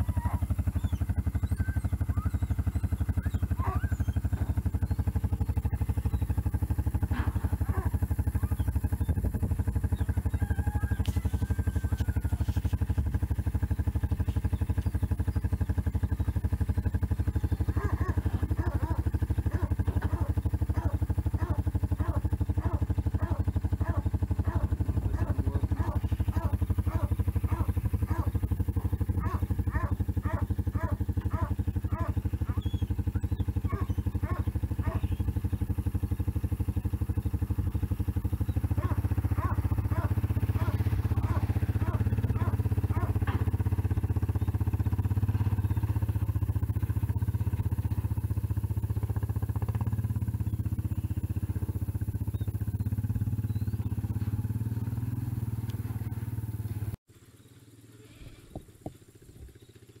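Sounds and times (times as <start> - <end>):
atv engine idling: 0.0 - 60.0.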